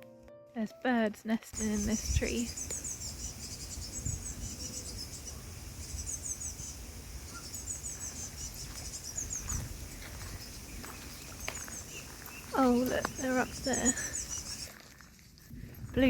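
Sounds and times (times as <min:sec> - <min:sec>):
fledgling birds chirping: 0:01.6 - 0:14.9.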